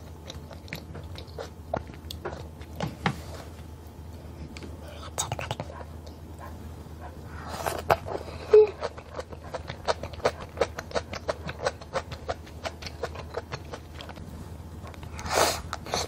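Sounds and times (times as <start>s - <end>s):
wet chewing with mouth clicks: 0.0s - 3.1s, 4.5s - 16.0s.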